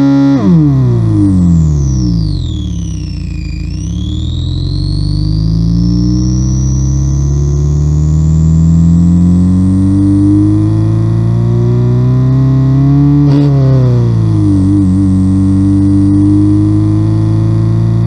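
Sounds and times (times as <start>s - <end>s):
synthesized buzzing engine note: 0.0s - 18.0s.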